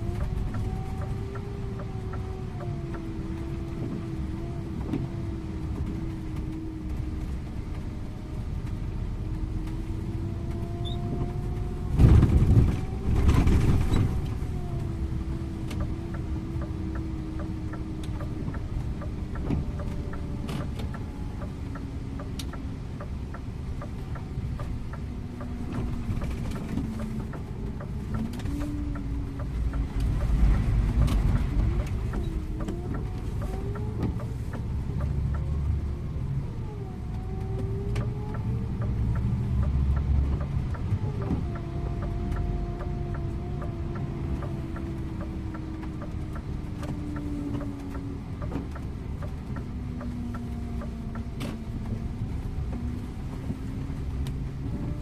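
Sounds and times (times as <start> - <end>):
diesel engine of a coach: 0.0 - 55.0
road noise: 0.0 - 55.0.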